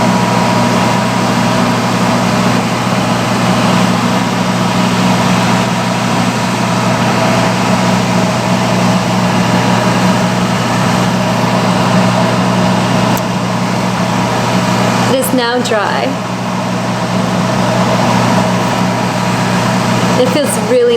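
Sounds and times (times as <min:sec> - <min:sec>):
hood hair dryer running: 0:00.0 - 0:20.9.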